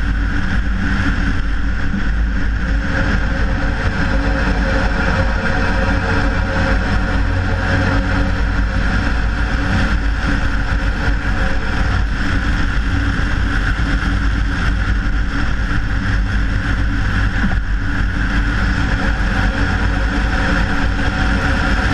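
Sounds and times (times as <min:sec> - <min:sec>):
tyre road noise: 0:00.0 - 0:21.9
wind rush: 0:00.0 - 0:21.9.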